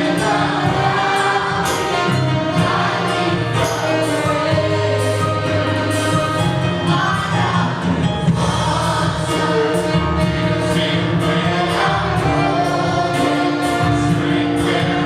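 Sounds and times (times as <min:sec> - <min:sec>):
church band playing: 0:00.0 - 0:15.0
group of voices singing: 0:00.0 - 0:15.0.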